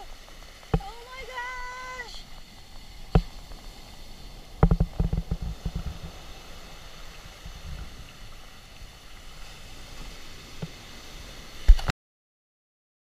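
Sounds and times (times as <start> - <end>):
surf breaking on beach: 0.0 - 11.9.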